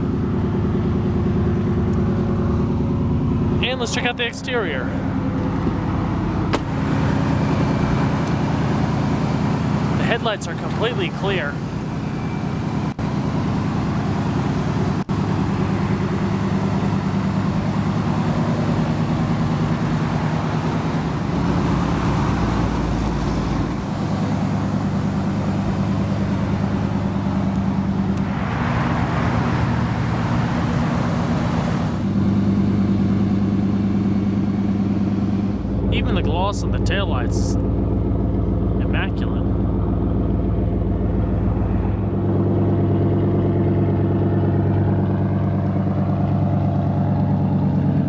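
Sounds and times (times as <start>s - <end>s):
truck engine idling: 0.0s - 48.0s.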